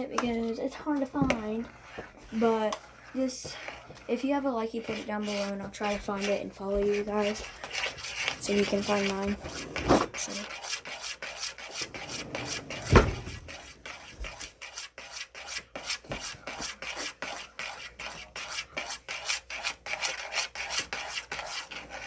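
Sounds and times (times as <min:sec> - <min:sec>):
utensil scraping a bowl: 0:00.0 - 0:22.0.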